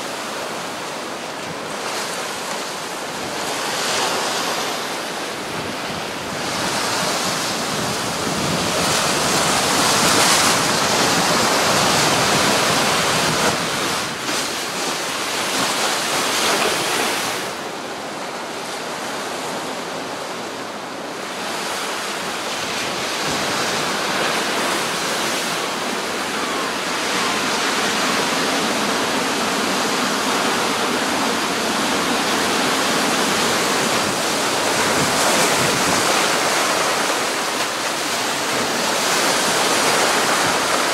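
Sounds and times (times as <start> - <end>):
storm surf breaking on seawall: 0.0 - 40.9.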